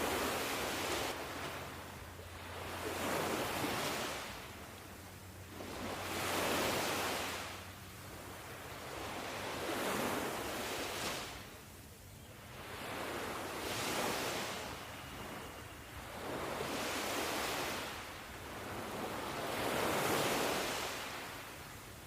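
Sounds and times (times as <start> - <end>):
ocean waves washing in: 0.0 - 11.8, 12.4 - 22.0.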